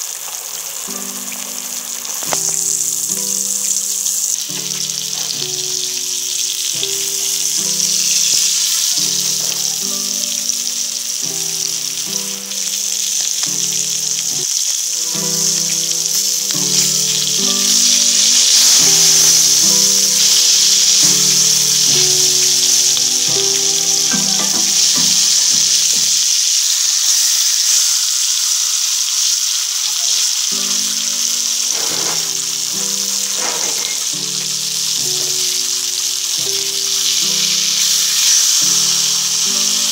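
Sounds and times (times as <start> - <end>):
fish sizzling in hot oil: 0.0 - 39.9
background music with melody: 0.1 - 39.9.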